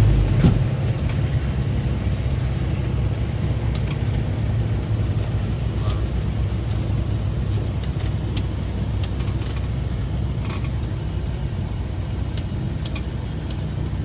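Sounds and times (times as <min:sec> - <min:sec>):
aircraft piston engine droning: 0:00.0 - 0:14.0.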